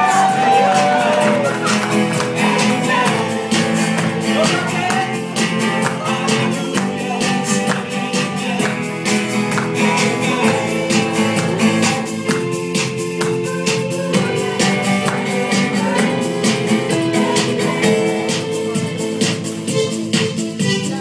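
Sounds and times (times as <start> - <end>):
dance music with steady beat: 0.0 - 21.0.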